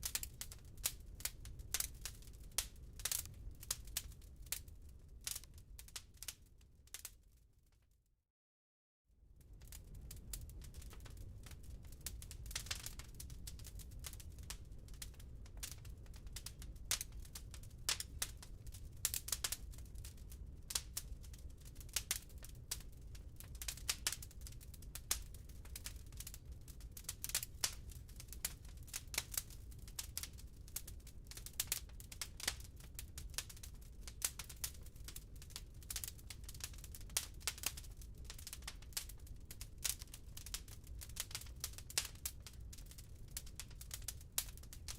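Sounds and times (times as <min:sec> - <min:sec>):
low rumble of flames: 0:00.0 - 0:07.6, 0:09.2 - 0:44.9.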